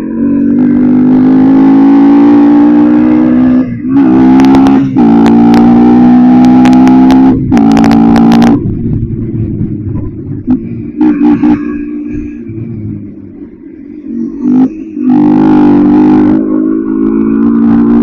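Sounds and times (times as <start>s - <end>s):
motorcycle engine revving high: 0.0s - 18.0s.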